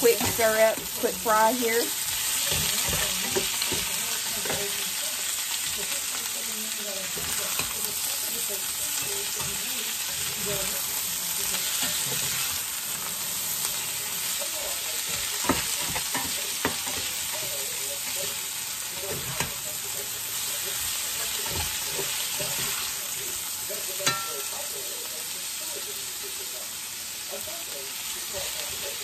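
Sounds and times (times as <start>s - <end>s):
vegetables sizzling in skillet: 0.0s - 29.0s.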